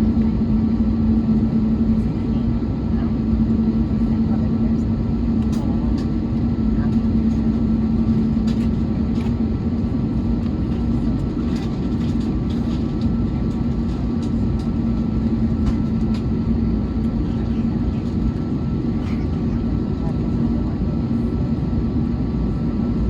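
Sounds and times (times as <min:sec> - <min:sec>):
aircraft cabin low rumble: 0:00.0 - 0:23.0
steady humming tone: 0:00.0 - 0:23.0.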